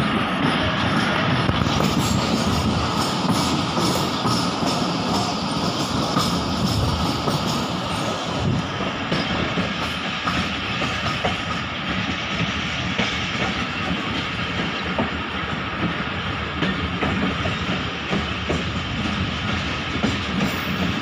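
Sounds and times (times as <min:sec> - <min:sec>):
clickety-clack of wheels on rail joints: 0:00.0 - 0:21.0
train rolling rush: 0:00.0 - 0:21.0.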